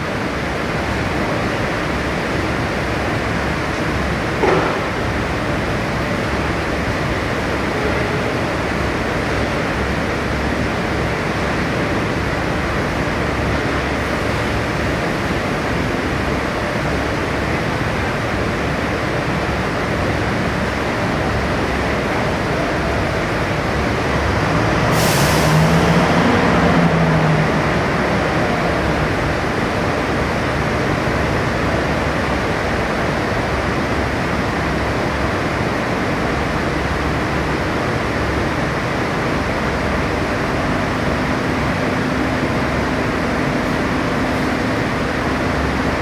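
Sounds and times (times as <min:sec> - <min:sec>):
crane engine running: 0:00.0 - 0:46.0.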